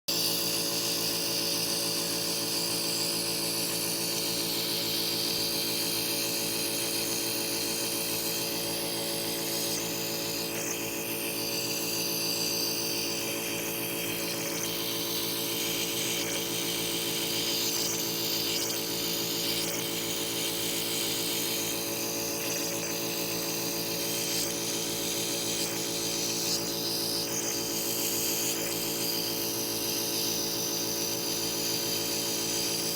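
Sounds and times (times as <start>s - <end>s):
compressor buzzing hum: 0.1s - 32.9s.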